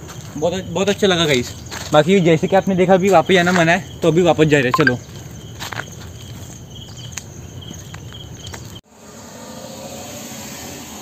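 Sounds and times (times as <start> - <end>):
insects chirping: 0.0 - 11.0
steady outdoor hiss: 0.0 - 11.0.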